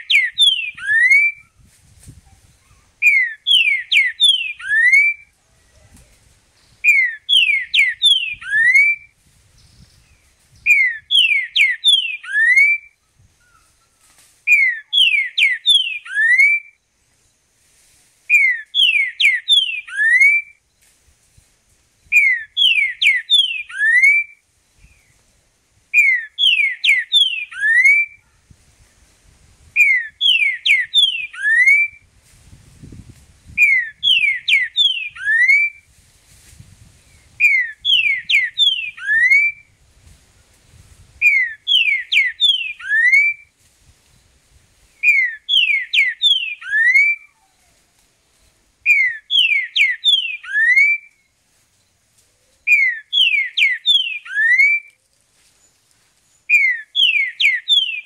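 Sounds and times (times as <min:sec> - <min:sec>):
bird singing whistled notes: 0:00.0 - 0:05.3, 0:06.6 - 0:17.4, 0:18.3 - 0:20.9, 0:22.0 - 0:25.2, 0:26.0 - 0:28.2, 0:29.8 - 0:32.1, 0:32.8 - 0:35.9, 0:37.0 - 0:39.7, 0:41.2 - 0:43.5, 0:45.0 - 0:47.6, 0:48.3 - 0:58.0.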